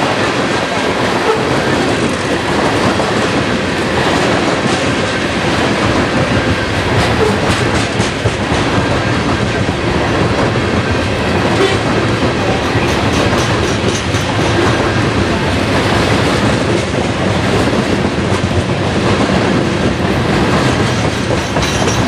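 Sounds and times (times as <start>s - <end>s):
steel wheels rolling on rail: 0.0s - 22.0s
wheels clicking over rail joints: 0.1s - 22.0s.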